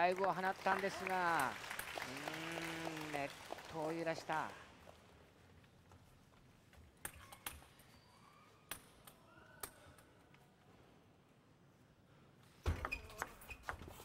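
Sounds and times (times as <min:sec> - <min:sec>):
faint hall ambience: 0:00.0 - 0:14.0.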